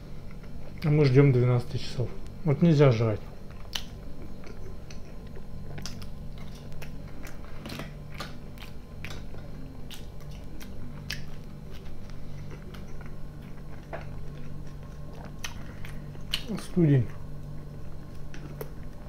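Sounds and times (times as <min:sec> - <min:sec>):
chewing soft food: 0:00.2 - 0:01.0, 0:03.2 - 0:19.0.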